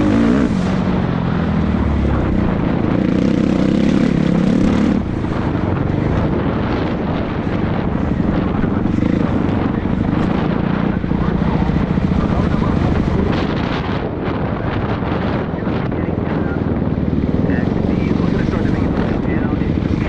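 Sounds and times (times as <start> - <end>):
motocross bike engine drone: 0.0 - 20.0.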